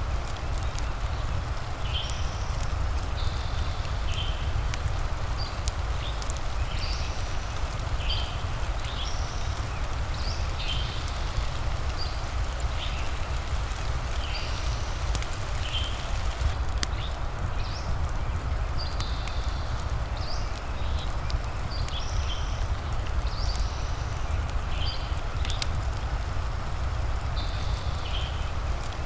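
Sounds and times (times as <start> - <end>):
fire crackles: 0.0 - 29.0
steady rain: 0.0 - 29.0.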